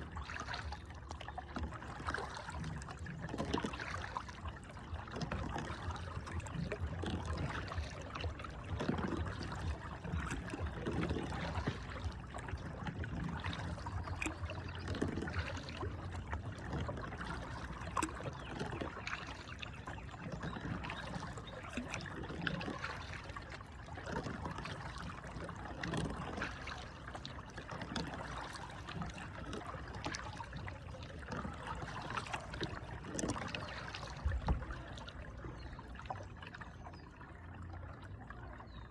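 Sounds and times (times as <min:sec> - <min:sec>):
paddle splashes and drips: 0:00.0 - 0:38.9
water trickling and splashing: 0:00.0 - 0:38.9.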